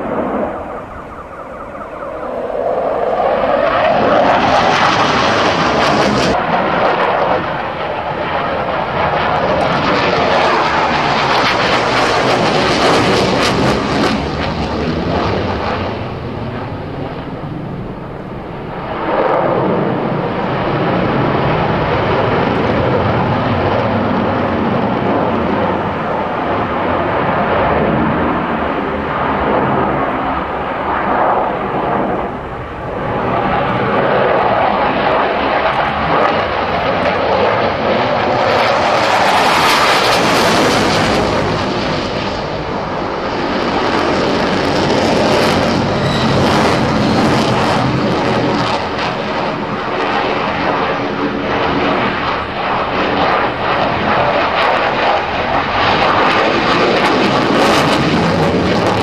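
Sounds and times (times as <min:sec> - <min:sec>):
fighter jet engines roaring: 0:00.0 - 0:59.0.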